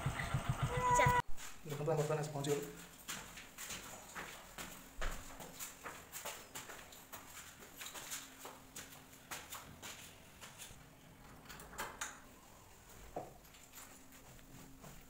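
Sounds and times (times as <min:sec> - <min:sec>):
footsteps on indoor stairs: 0:00.2 - 0:11.0, 0:12.9 - 0:15.0.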